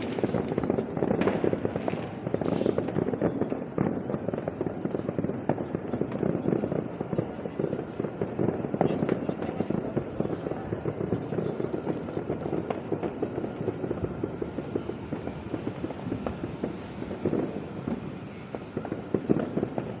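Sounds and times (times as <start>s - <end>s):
fireworks crackling and popping: 0.0s - 20.0s
loud firework bangs: 0.0s - 20.0s.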